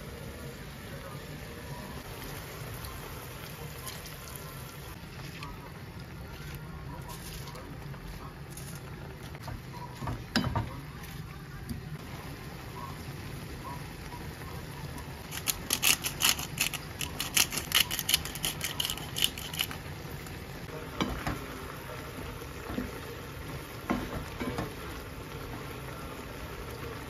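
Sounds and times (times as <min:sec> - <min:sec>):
sauce simmering and bubbling: 0:02.0 - 0:27.0.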